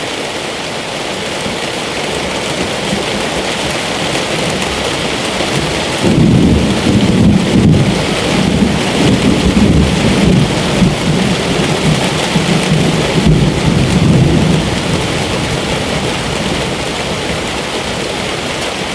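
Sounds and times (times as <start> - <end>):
heavy rainfall: 0.0 - 18.9
thunder rumbling: 2.6 - 18.1.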